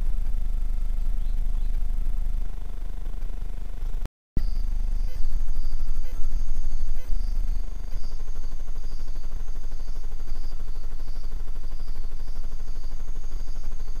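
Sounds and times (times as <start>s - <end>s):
pulsing insect call: 0.0s - 14.0s
steady high hum: 0.0s - 14.0s.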